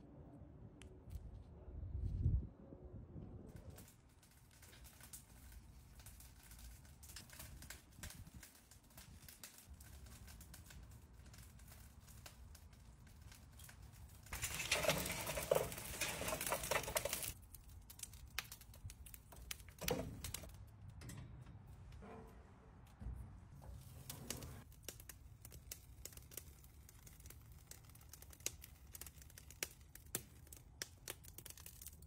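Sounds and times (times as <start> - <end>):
charcoal rushing and crackling: 3.5 - 21.2, 22.0 - 32.0.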